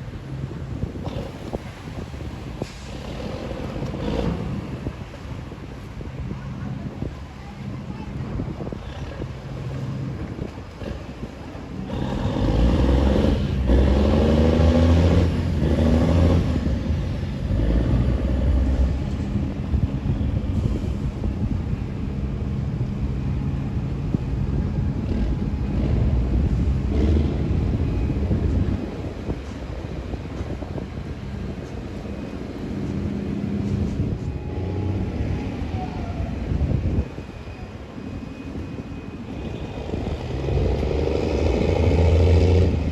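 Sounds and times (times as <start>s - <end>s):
tugboat diesel engine: 0.0s - 42.9s.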